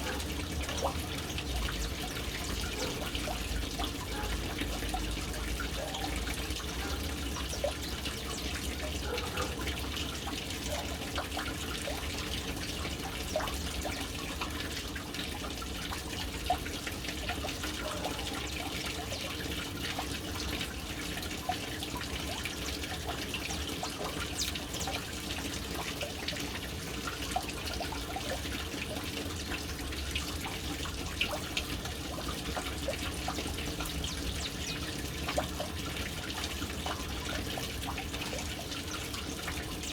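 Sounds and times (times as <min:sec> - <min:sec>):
water trickling into a tank: 0:00.0 - 0:39.9.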